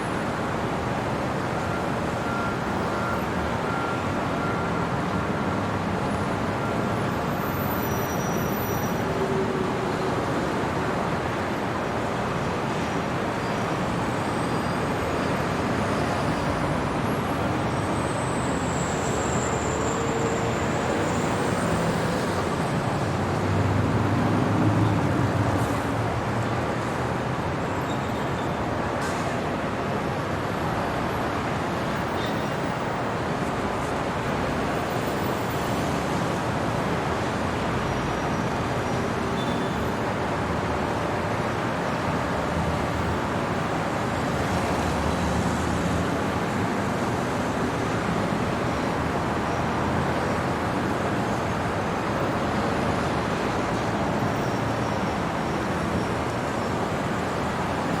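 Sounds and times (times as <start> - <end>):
traffic road noise: 0.0 - 58.0.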